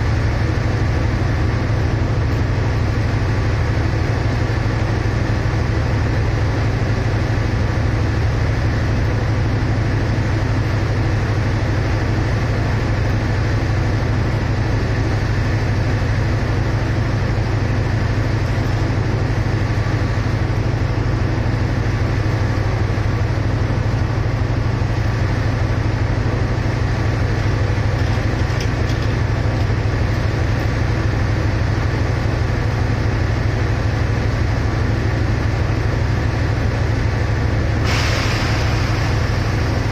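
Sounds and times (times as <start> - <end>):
diesel train idling: 0.0 - 39.9.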